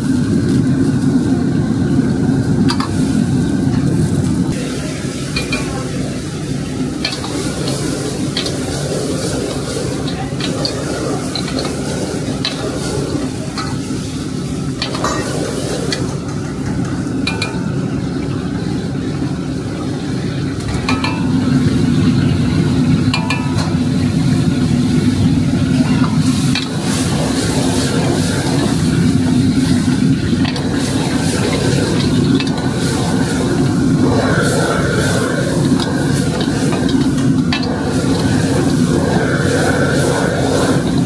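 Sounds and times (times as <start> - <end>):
food sizzling in wok: 0.0 - 19.4, 20.5 - 41.0.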